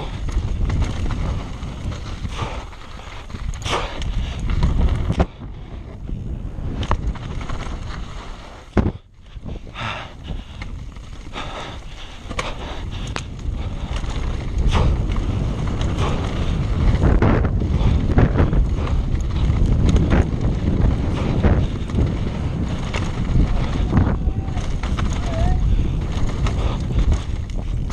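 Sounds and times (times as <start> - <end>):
bike knocking and rattling: 0.0 - 27.9
bike tyres rolling on rocky trail: 0.0 - 27.9
wind on camera microphone: 0.0 - 27.9.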